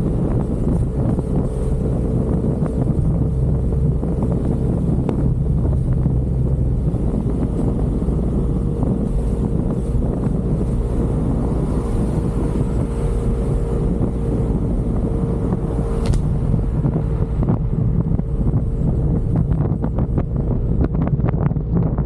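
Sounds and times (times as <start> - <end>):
steady whine: 0.0 - 22.0
wind rushing over microphone: 0.0 - 22.0.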